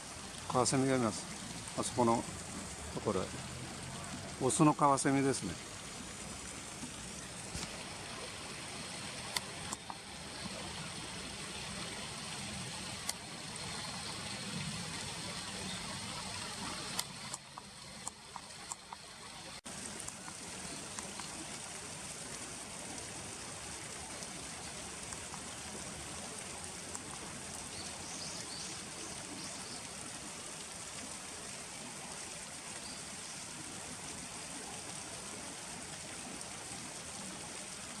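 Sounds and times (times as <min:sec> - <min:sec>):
river flowing: 0:00.0 - 0:38.0.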